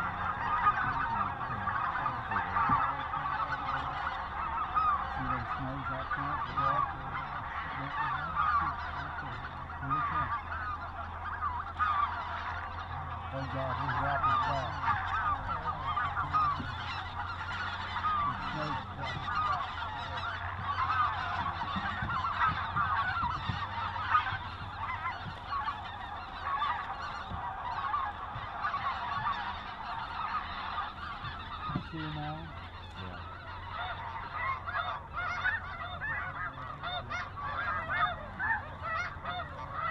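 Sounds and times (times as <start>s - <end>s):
geese honking overhead: 0.0s - 39.9s.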